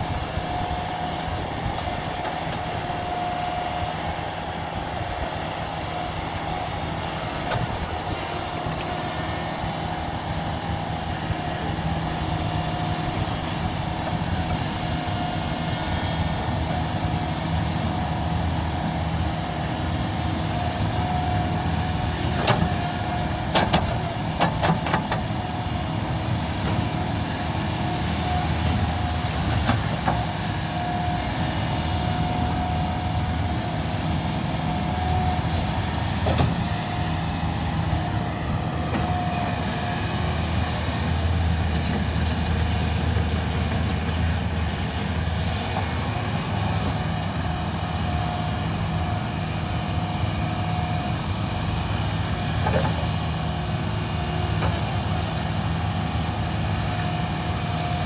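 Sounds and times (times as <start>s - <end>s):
excavator diesel engine running: 0.0s - 58.0s
steady whine: 0.0s - 58.0s.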